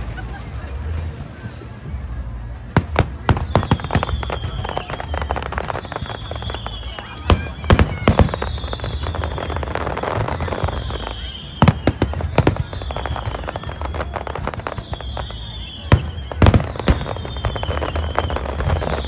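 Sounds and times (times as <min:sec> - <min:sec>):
fireworks crackling: 0:01.8 - 0:19.0
fireworks bursting with bangs: 0:02.6 - 0:19.0.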